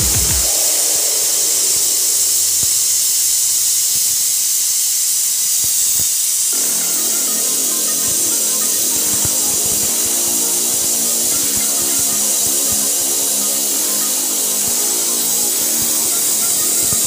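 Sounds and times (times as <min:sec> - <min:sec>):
pressure cooker hissing steam: 0:00.0 - 0:17.0.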